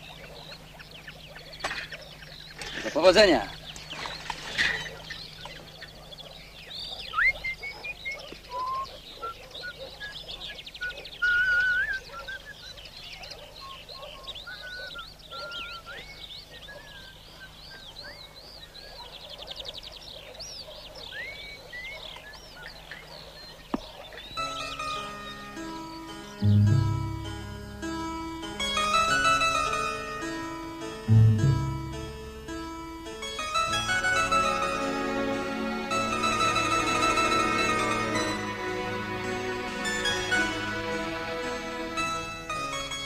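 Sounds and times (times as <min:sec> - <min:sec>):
birds singing and chirping: 0:00.0 - 0:38.8.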